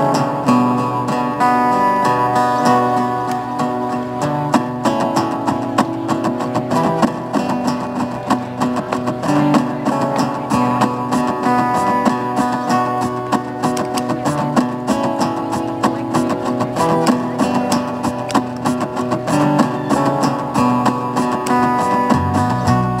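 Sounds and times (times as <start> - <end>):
acoustic guitar picked and strummed: 0.0 - 23.0.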